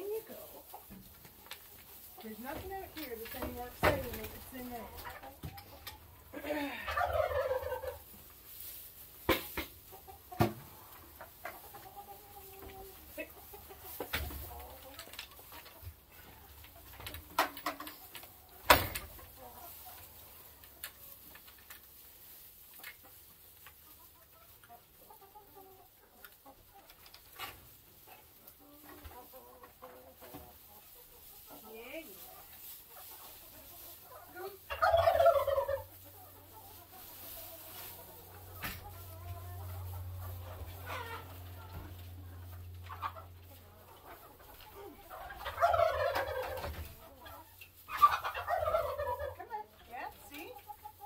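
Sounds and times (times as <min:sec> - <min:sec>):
hens clucking softly: 0:00.0 - 0:51.0.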